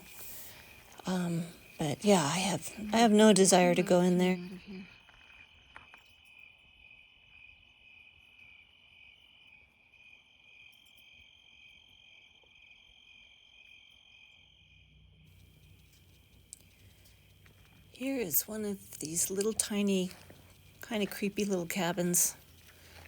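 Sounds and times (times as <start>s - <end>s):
crickets trilling: 0.0s - 14.8s, 15.4s - 23.0s.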